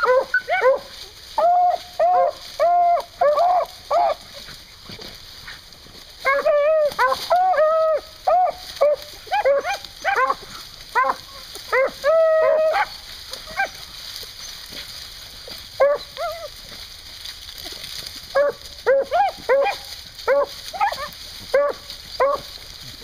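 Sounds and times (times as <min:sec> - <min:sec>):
beagles barking: 0:00.0 - 0:04.6, 0:06.2 - 0:16.6, 0:18.2 - 0:22.6.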